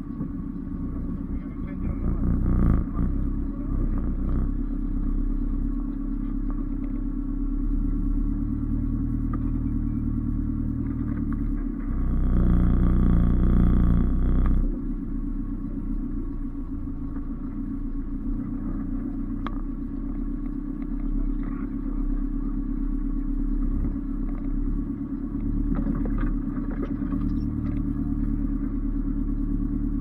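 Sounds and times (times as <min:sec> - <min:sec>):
engine rumbling: 0:00.0 - 0:30.0.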